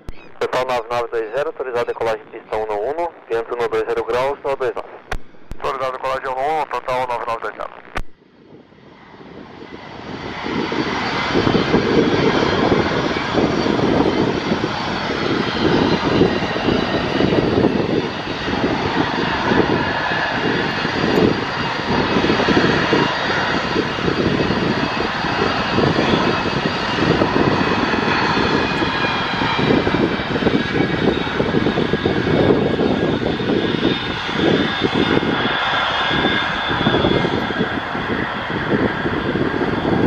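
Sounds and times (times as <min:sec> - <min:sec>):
jet engine roar at takeoff: 0:00.0 - 0:40.0
low fluttering rumble: 0:00.0 - 0:40.0.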